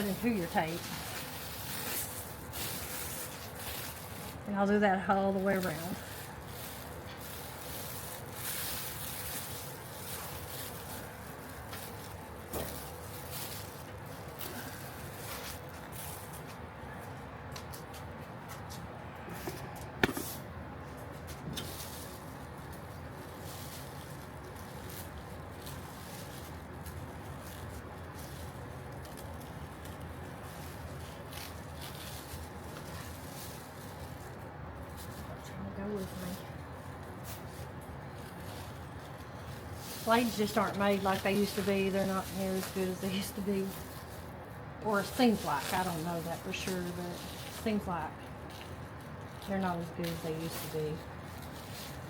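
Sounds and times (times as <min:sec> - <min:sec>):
scratchy rustle of material: 0:00.0 - 0:52.0
steady low hum: 0:00.0 - 0:52.0.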